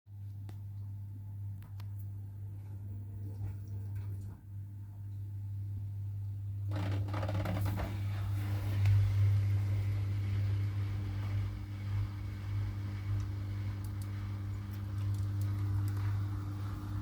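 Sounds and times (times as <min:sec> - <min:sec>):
washing machine humming: 0:00.1 - 0:17.0.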